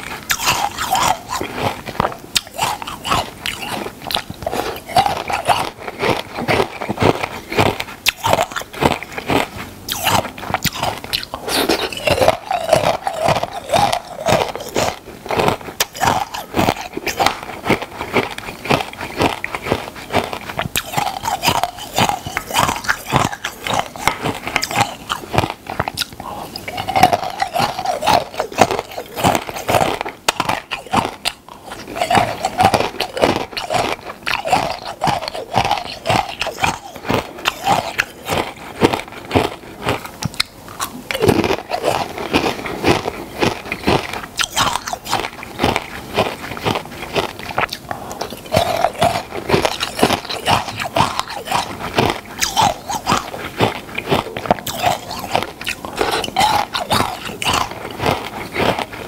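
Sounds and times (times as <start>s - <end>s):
crunchy food chewing: 0.0s - 59.0s.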